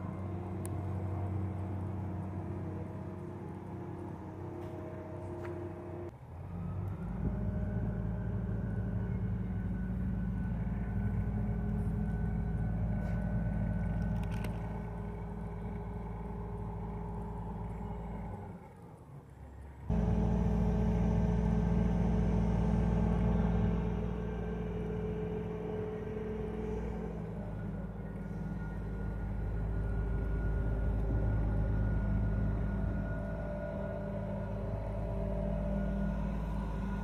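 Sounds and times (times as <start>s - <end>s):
crane engine humming: 0.0s - 37.0s.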